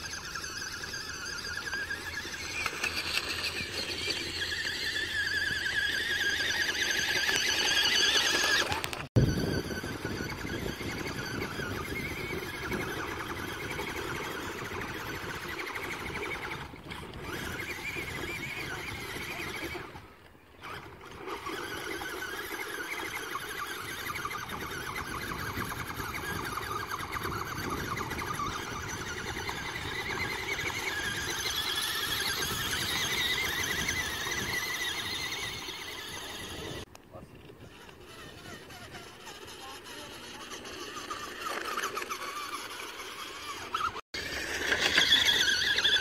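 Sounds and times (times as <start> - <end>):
toy truck motor whining: 0.0 - 37.0, 37.6 - 46.0.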